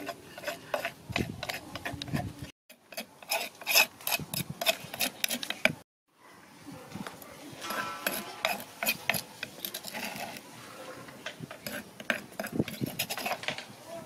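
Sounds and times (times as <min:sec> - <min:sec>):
metal spoon scraping wooden mortar: 0:00.0 - 0:05.8, 0:07.6 - 0:13.8.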